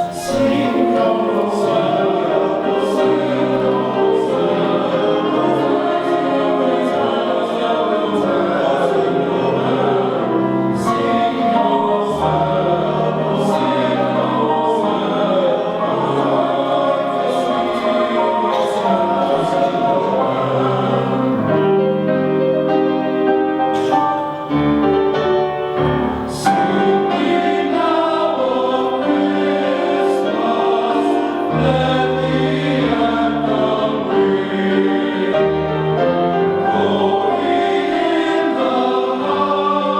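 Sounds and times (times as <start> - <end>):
men's chorus singing in harmony: 0.0 - 39.9.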